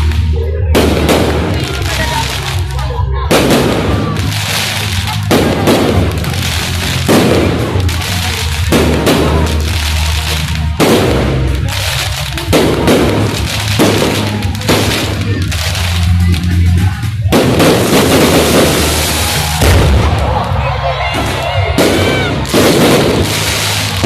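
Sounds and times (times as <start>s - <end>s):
fireworks bangs: 0.0s - 24.0s
fireworks crackle: 0.0s - 24.0s.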